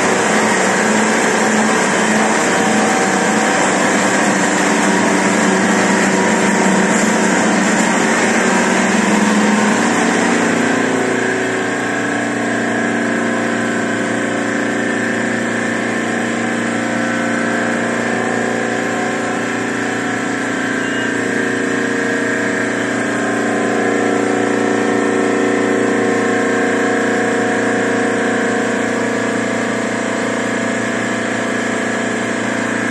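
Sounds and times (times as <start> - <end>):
printing press running: 0.0 - 32.9.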